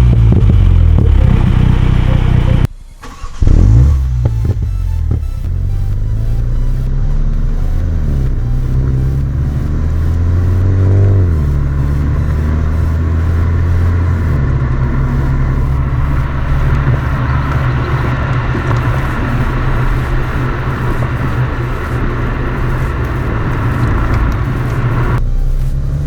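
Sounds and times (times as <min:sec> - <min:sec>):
car engine fast idle: 0:00.0 - 0:25.9
rushing noise: 0:04.8 - 0:26.0.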